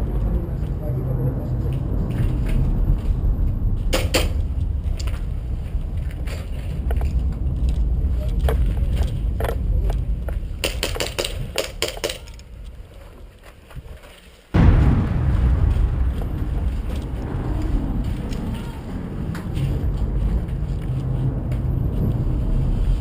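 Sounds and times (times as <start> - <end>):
footsteps: 0.0 - 23.0
low rumbling wind: 0.0 - 23.0.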